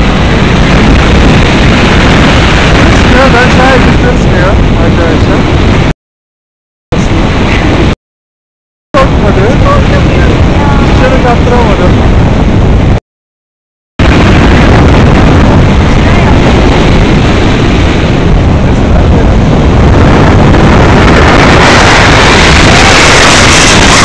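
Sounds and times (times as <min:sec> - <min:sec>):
wind rushing over microphone: 0:00.0 - 0:05.9, 0:06.9 - 0:08.0, 0:09.0 - 0:13.0, 0:14.0 - 0:24.0.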